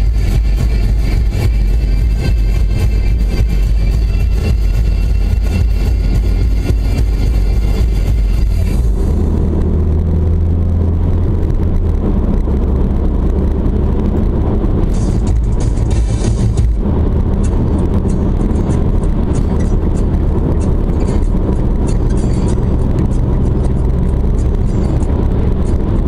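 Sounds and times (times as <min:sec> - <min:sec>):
engine and tyre rumble: 0:00.0 - 0:26.0.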